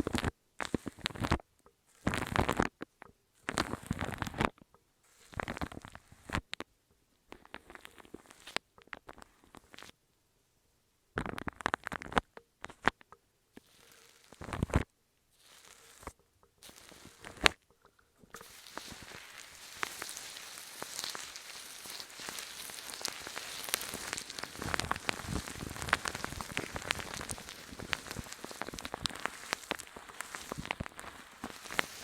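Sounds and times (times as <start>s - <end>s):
close small clicks and crackles: 0.0s - 10.0s, 11.2s - 32.0s.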